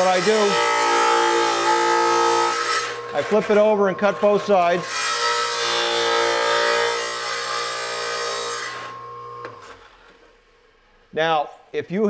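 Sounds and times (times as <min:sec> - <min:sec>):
tile saw grinding through tile: 0:00.0 - 0:10.6
saw motor hum: 0:00.0 - 0:11.1.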